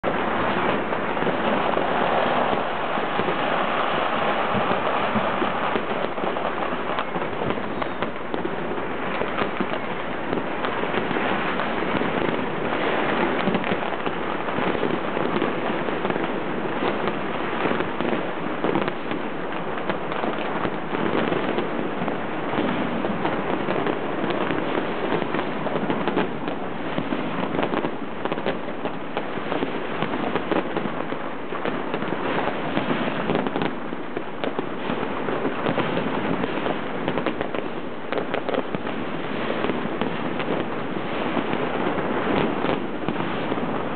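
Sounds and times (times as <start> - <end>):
fireworks crackling and banging: 0.0 - 43.9.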